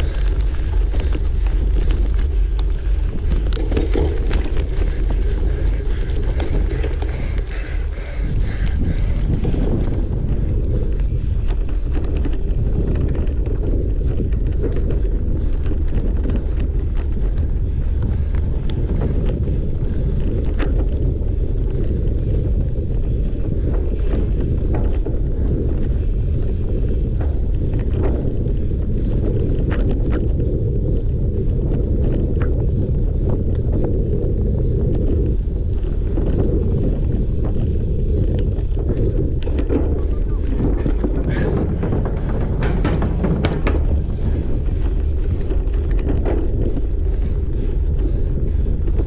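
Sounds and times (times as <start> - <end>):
bike clicks and rattles: 0.0 - 49.0
wind rumble on microphone: 0.0 - 49.0.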